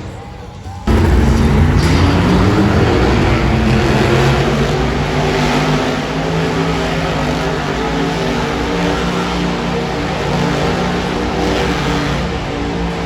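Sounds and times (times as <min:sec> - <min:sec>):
monster truck engine running: 0:00.9 - 0:13.0.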